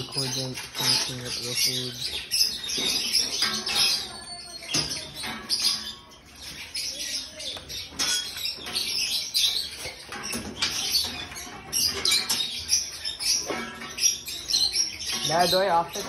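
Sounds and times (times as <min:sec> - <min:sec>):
dogs eating from metal bowls: 0:00.0 - 0:07.0, 0:07.6 - 0:16.0.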